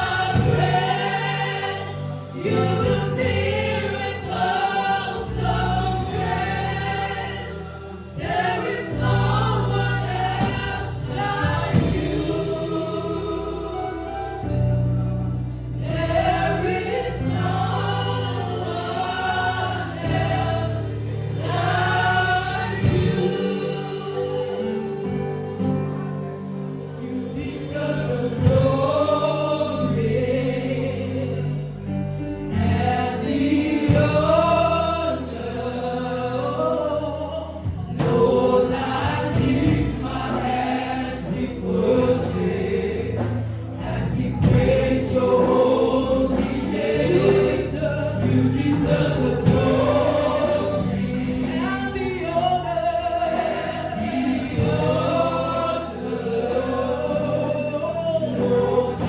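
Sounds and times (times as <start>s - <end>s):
choir singing: 0.0s - 59.0s
instrumental backing with low notes: 0.0s - 59.0s.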